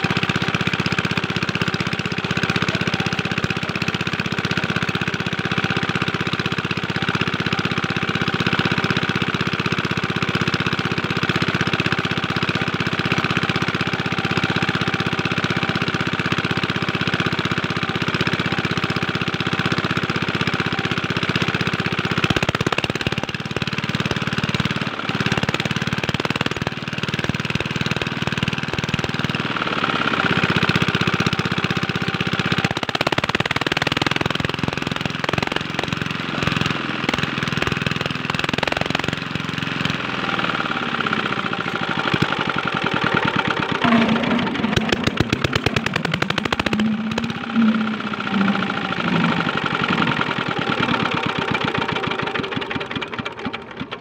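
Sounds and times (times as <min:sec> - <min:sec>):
diesel engine knocking: 0:00.0 - 0:54.0.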